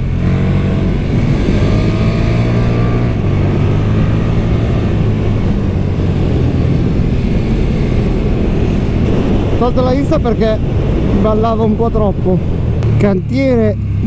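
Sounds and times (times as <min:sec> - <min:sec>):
motorcycle engine while riding: 0:00.0 - 0:14.0.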